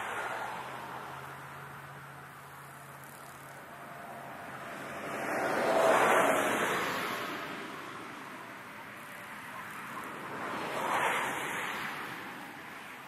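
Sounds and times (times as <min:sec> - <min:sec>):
vehicles passing by: 0:00.0 - 0:13.0.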